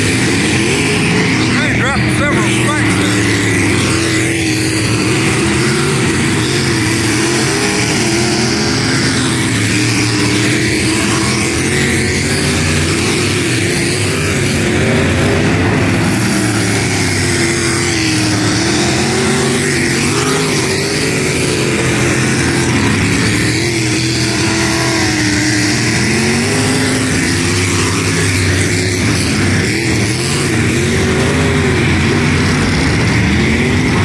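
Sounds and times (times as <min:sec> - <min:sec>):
race car engines: 0:00.0 - 0:34.0.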